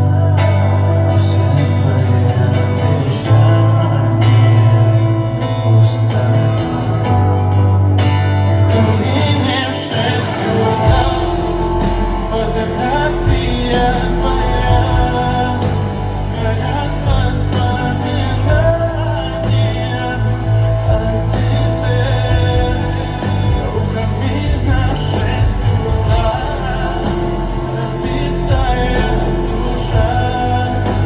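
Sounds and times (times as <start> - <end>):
live pop music over speakers: 0.0 - 31.0
person singing: 0.0 - 31.0.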